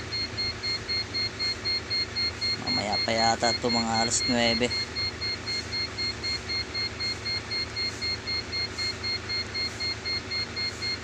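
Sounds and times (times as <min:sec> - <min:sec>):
diesel truck engine idling: 0:00.0 - 0:11.0
rapid high-pitched beeping: 0:00.0 - 0:11.0.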